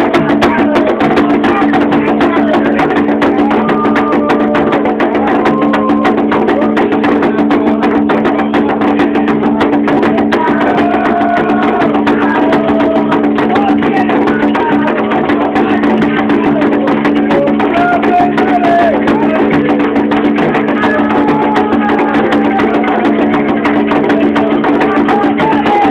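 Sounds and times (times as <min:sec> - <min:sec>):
fast struck percussion: 0:00.0 - 0:25.9
voices singing a chant: 0:00.0 - 0:25.9.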